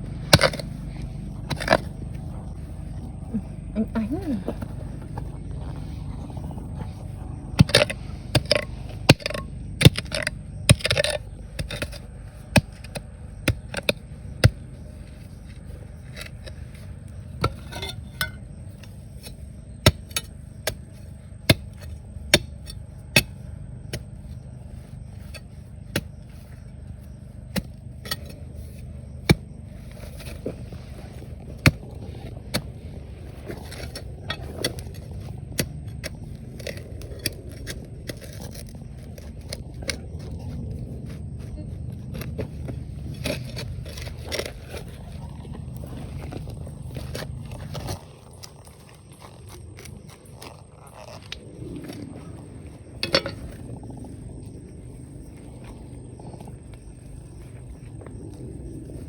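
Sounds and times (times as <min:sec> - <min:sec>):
steady low rush: 0:00.0 - 0:27.8, 0:28.4 - 0:59.0.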